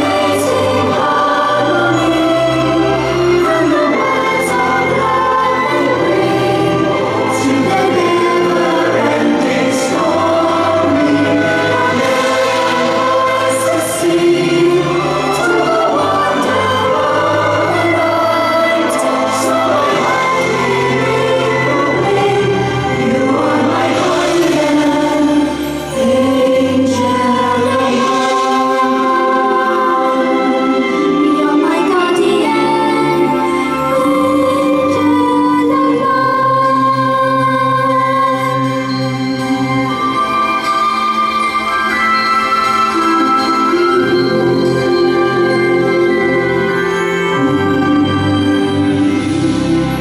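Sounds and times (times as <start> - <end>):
children and adults singing: 0.0 - 40.1.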